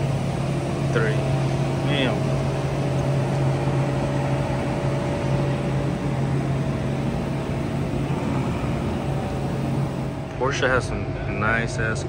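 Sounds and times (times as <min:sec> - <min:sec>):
low mechanical hum: 0:00.0 - 0:12.0
outdoor background noise: 0:00.0 - 0:12.0.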